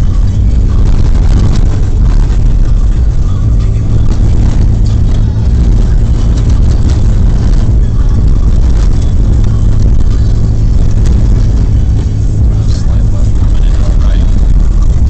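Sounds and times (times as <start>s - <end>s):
pickup truck engine rumble: 0.0s - 15.0s.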